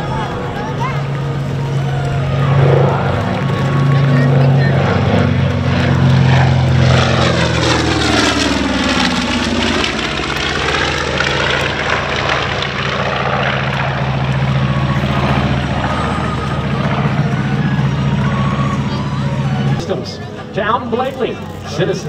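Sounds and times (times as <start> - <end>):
radial aircraft engines roaring: 0.0 - 22.0.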